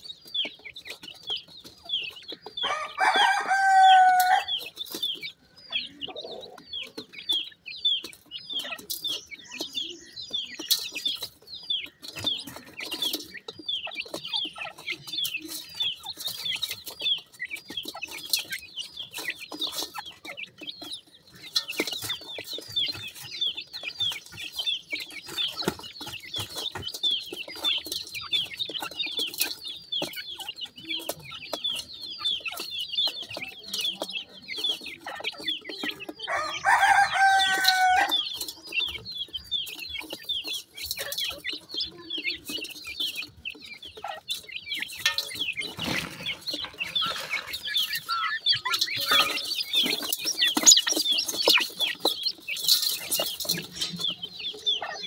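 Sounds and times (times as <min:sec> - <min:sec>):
beaks pecking feed: 0:00.0 - 0:55.0
chicks peeping: 0:00.0 - 0:55.0
drawn-out bird call: 0:00.0 - 0:55.0.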